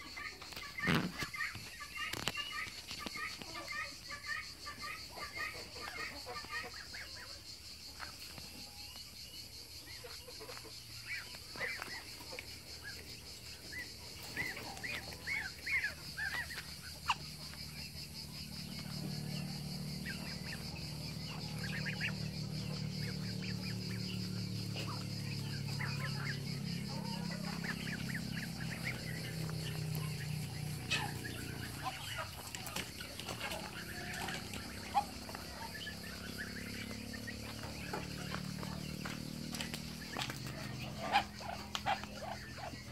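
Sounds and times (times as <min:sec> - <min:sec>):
ducklings peeping: 0:00.0 - 0:42.9.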